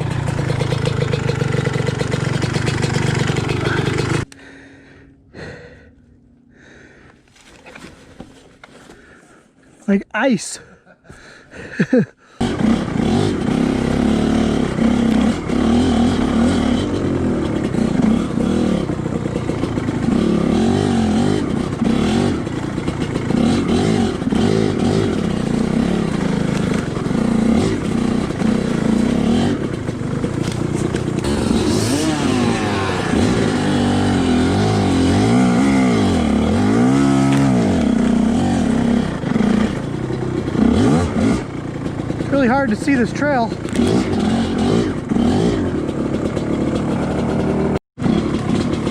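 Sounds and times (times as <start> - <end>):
dirt bike engine revving: 0.0 - 4.3, 11.8 - 48.9.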